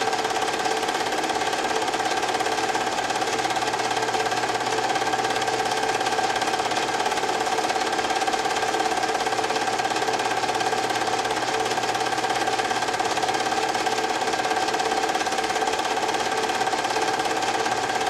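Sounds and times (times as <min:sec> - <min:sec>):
film projector clattering: 0:00.0 - 0:18.0.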